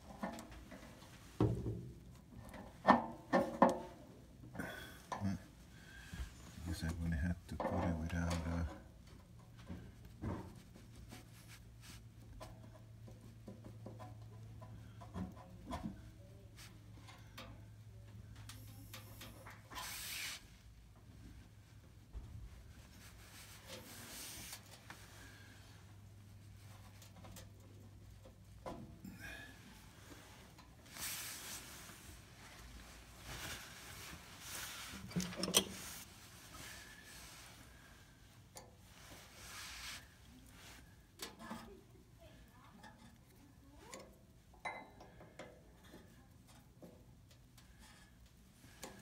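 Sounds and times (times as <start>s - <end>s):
faint handling sounds: 0.0s - 49.0s.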